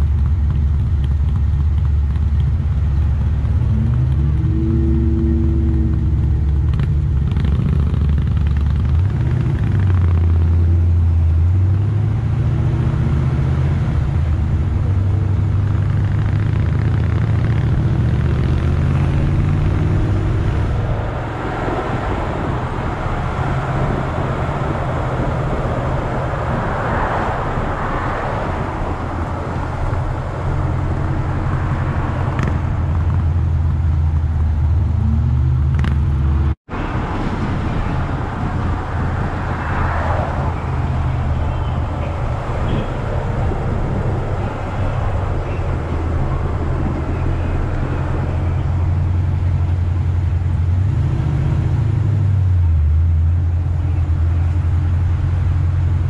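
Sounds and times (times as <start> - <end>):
car engine droning: 0.0 - 56.0
road and wind hiss: 0.0 - 56.0.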